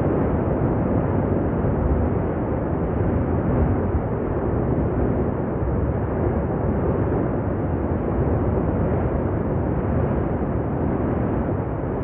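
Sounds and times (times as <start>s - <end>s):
volcano deep rumble: 0.0s - 12.0s.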